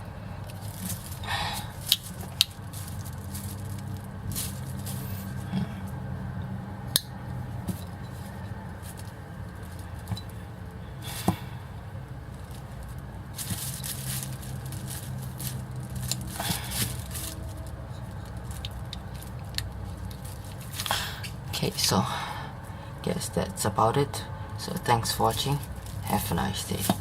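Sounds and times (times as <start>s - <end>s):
rustling handling noise: 0.0s - 23.6s, 24.4s - 27.0s
steady low hum: 0.0s - 27.0s.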